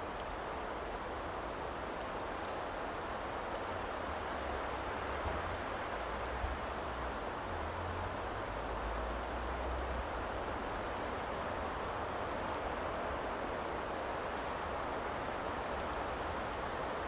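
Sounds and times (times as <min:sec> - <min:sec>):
hissing woodland ambience: 0:00.0 - 0:17.0.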